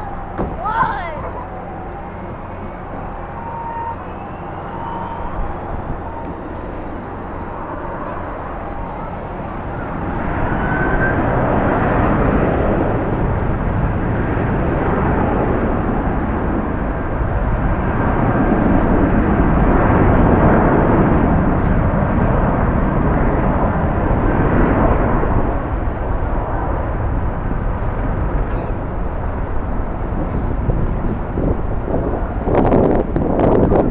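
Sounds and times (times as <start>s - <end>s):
jet airliner engines passing: 0.0s - 33.9s
wind buffeting microphone: 0.0s - 33.9s.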